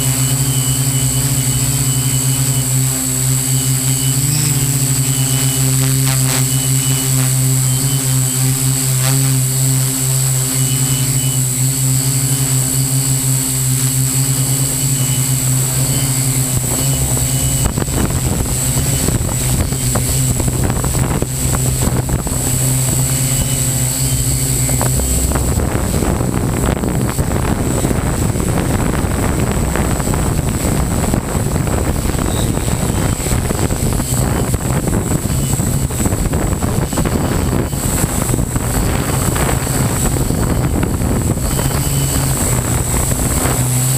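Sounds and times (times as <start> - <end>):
drone propellers whirring: 0.0 - 43.9.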